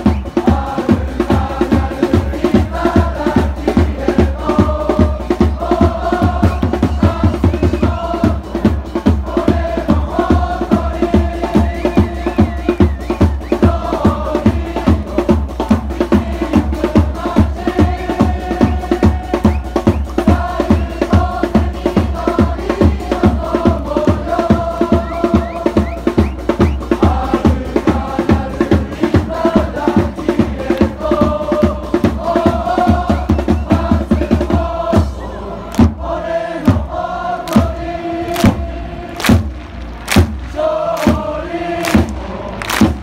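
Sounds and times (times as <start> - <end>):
bass drum beat: 0.0 - 43.0
crowd chanting in unison: 0.0 - 43.0.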